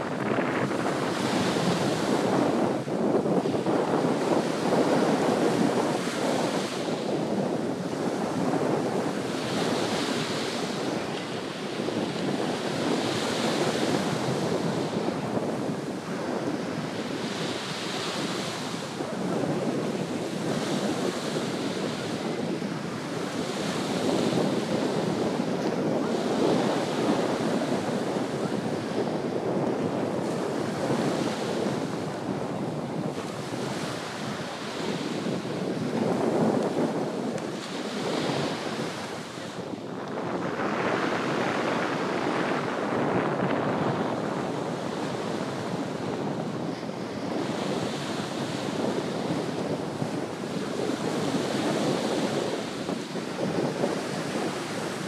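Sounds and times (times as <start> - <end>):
sea waves breaking on shore: 0.0 - 55.0
wind buffeting microphone: 0.0 - 55.0.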